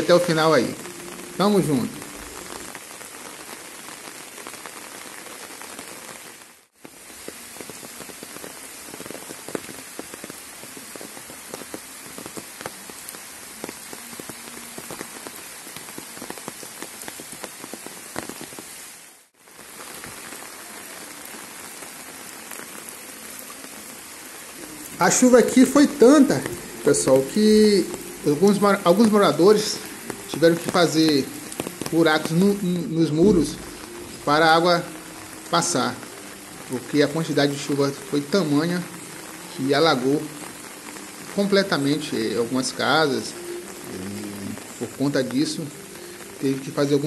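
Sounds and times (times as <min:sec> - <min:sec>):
rain on standing water: 0:00.0 - 0:47.0.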